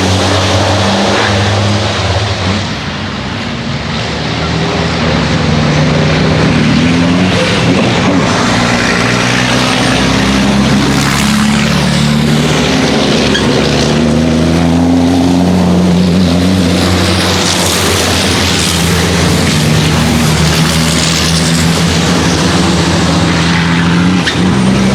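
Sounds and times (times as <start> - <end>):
truck diesel engines revving: 0.0 - 24.9.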